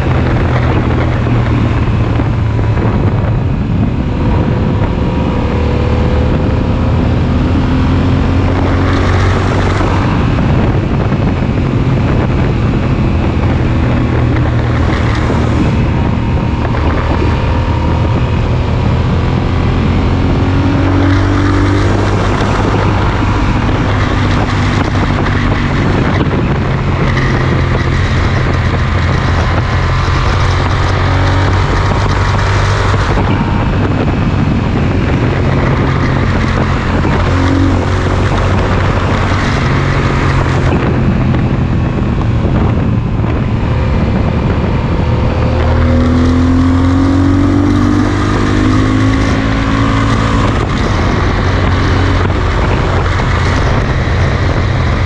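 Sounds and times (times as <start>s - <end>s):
motorcycle engine cruising: 0.0s - 55.0s
wind rushing past microphone: 0.0s - 55.0s.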